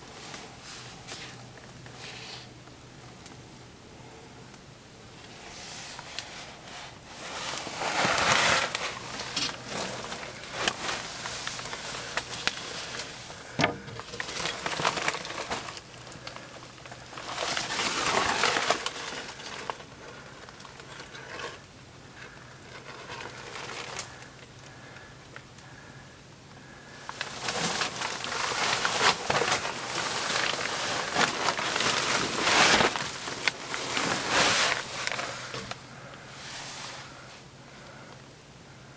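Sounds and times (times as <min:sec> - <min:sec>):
rustling against plastic sheeting: 0:05.2 - 0:25.9, 0:26.6 - 0:37.9.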